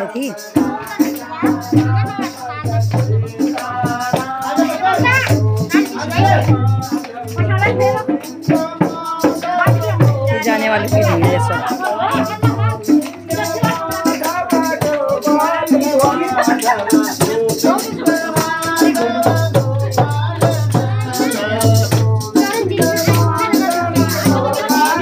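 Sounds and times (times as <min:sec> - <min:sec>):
group singing: 0:00.0 - 0:25.0
hand drum beat: 0:00.3 - 0:25.0.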